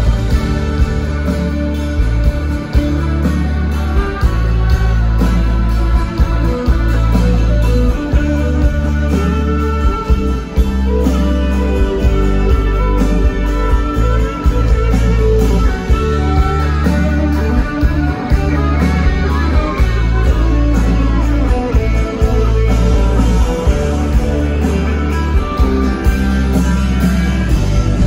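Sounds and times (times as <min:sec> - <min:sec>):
acoustic and electric guitars: 0:00.0 - 0:28.0
drum kit beat: 0:00.0 - 0:28.0
heavy bass: 0:00.0 - 0:28.0
keyboard: 0:00.0 - 0:28.0.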